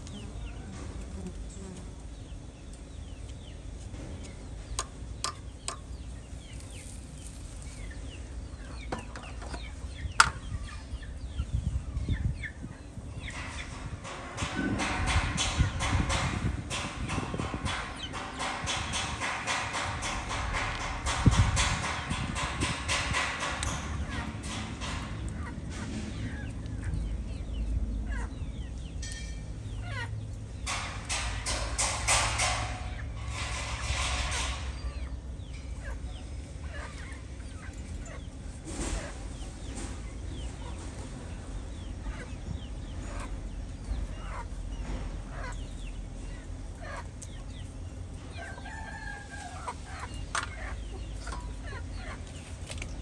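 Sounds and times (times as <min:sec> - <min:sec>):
birds chirping: 0:00.0 - 0:20.1, 0:21.2 - 0:33.6, 0:34.3 - 0:53.0
steady low hum: 0:00.0 - 0:53.0.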